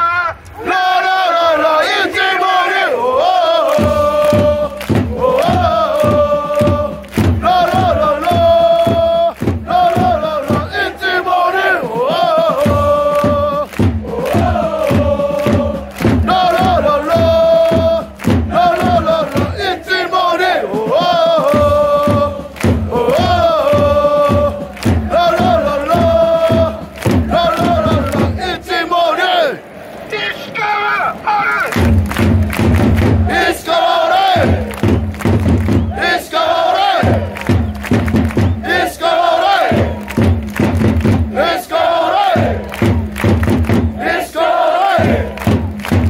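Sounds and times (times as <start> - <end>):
crowd chanting in unison: 0.0 - 46.0
drum beating: 3.0 - 29.0, 31.6 - 46.0.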